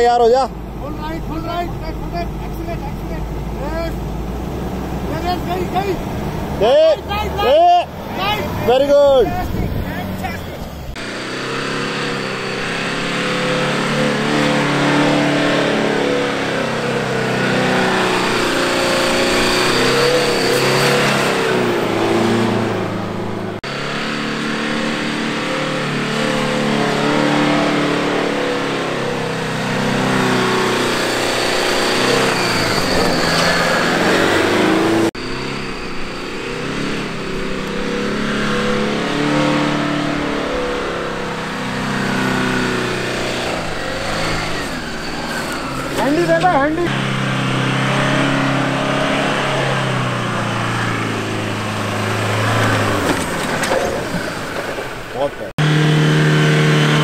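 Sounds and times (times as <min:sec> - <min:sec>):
suv engine revving hard: 0:00.0 - 0:57.0.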